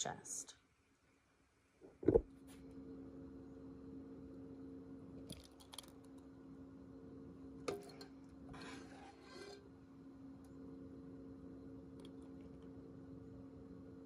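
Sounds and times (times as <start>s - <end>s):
steady low hum: 1.8s - 14.0s.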